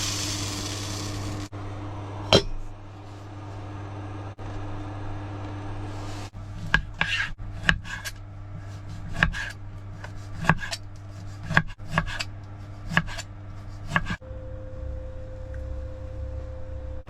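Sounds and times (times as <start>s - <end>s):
range hood fan hum: 0.0s - 17.0s.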